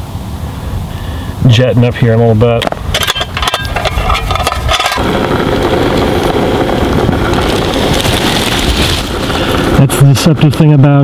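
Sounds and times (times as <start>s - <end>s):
stove flame hissing: 0.0s - 11.0s.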